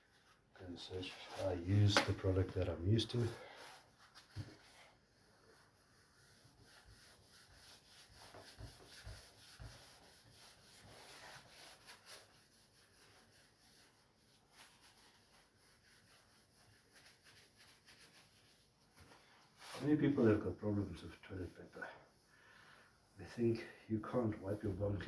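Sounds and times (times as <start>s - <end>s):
paper rubbing and wiping: 0.1s - 22.3s, 22.9s - 25.0s.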